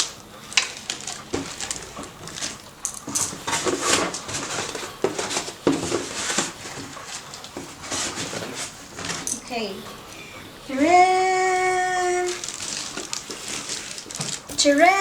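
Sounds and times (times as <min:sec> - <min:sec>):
packing material rustling: 0:00.0 - 0:15.0.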